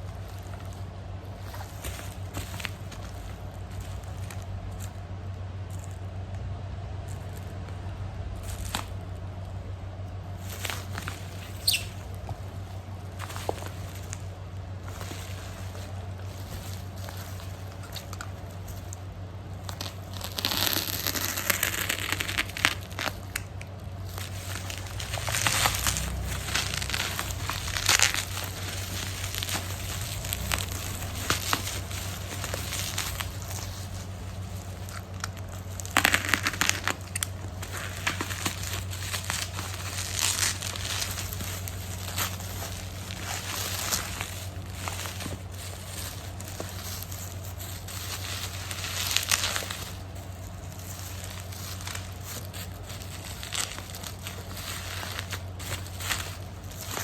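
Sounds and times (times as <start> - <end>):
plastic packaging crinkling: 0.0 - 57.0
steady low hum: 0.0 - 57.0.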